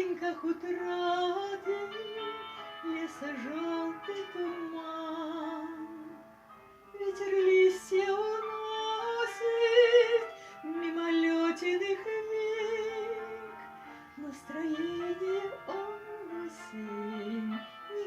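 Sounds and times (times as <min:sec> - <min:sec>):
woman singing with vibrato: 0:00.0 - 0:06.2, 0:06.9 - 0:13.6, 0:14.2 - 0:18.0
soft instrumental accompaniment: 0:00.0 - 0:18.0.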